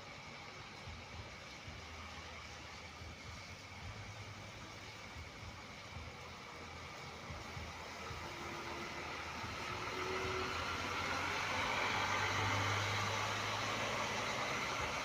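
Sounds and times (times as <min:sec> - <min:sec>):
bus engine humming: 0:00.0 - 0:15.0
rain hiss: 0:00.0 - 0:15.0.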